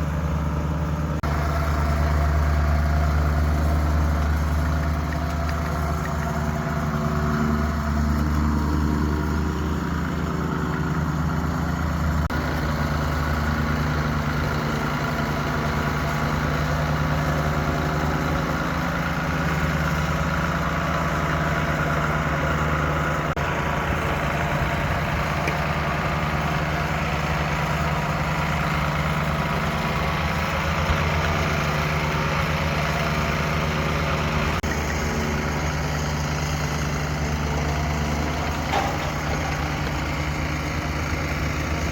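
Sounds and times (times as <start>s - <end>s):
heavy machine engine running: 0.0s - 41.9s.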